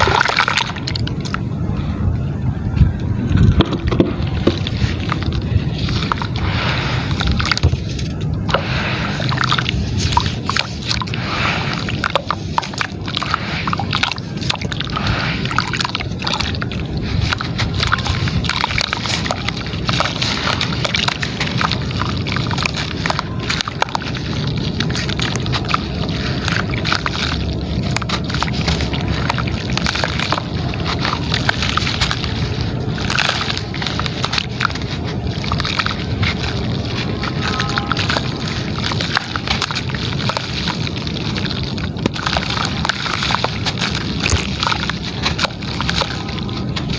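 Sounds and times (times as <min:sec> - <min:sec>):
gritty material crumbling into water: 0:00.0 - 0:01.4, 0:03.4 - 0:46.9
water sloshing and gurgling: 0:00.0 - 0:46.9
small crackles: 0:04.4 - 0:46.9.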